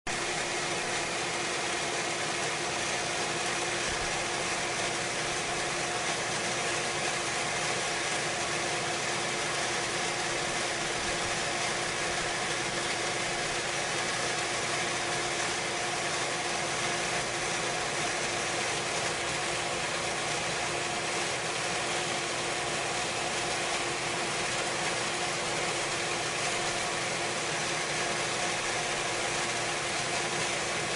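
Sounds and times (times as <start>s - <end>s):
pool pump running: 0.1s - 30.9s.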